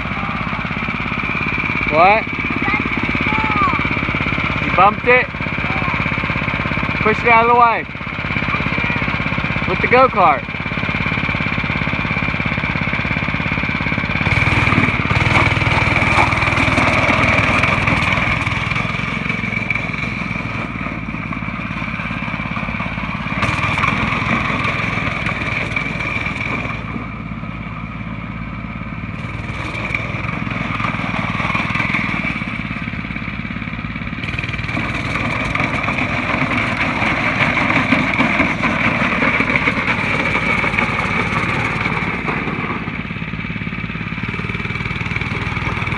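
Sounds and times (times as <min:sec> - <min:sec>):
go-kart engine running: 0:00.0 - 0:45.9
wheels on gravel: 0:00.0 - 0:45.9.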